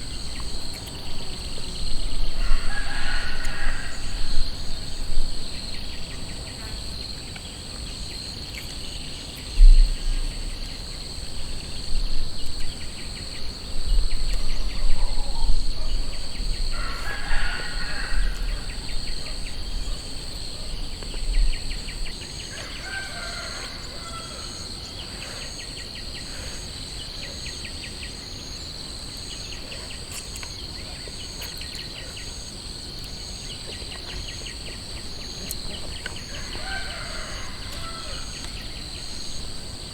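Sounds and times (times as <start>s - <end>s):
insect drone with pulsing trills: 0.0s - 39.9s.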